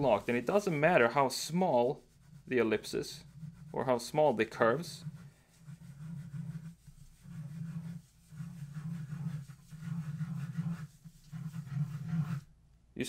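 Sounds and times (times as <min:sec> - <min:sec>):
pen scratching on paper: 0:02.0 - 0:12.5.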